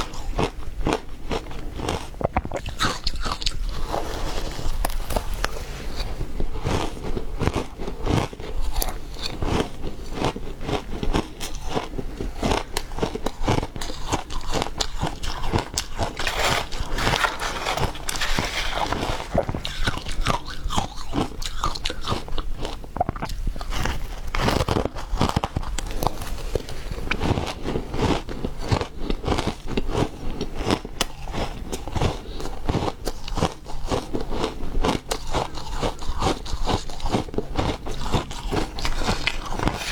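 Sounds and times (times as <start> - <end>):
ice being chewed and crunched: 0.0 - 39.9.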